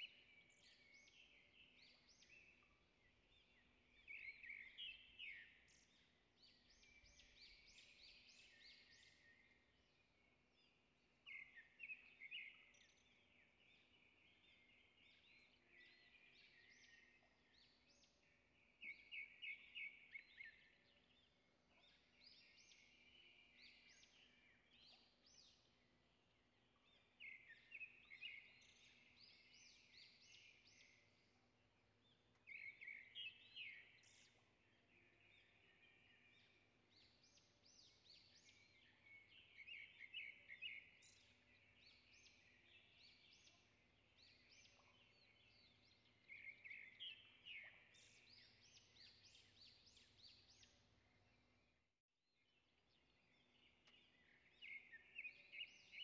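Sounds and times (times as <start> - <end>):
birds chirping softly: 0.0 - 56.0.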